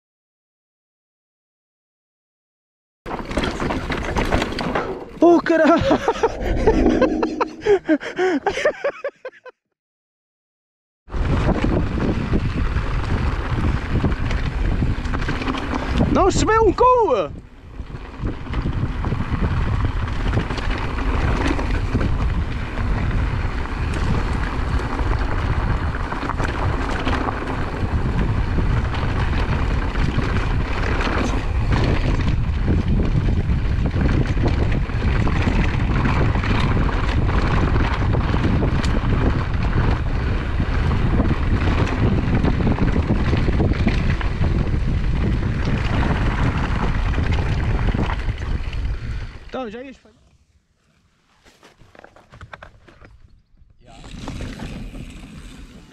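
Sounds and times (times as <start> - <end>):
bike tyre rumble on dirt: 3.1 - 5.2, 11.1 - 49.6, 50.2 - 55.9
wind roaring on microphone: 3.3 - 8.9, 11.1 - 50.4, 52.3 - 55.9.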